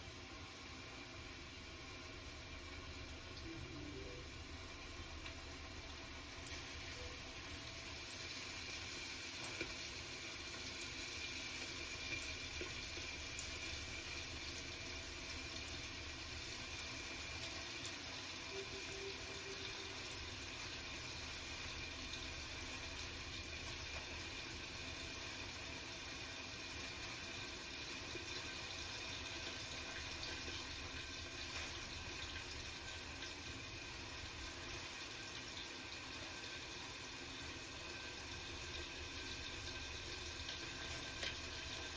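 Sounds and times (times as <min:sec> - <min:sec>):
potatoes frying in hot oil: 0:00.0 - 0:41.9.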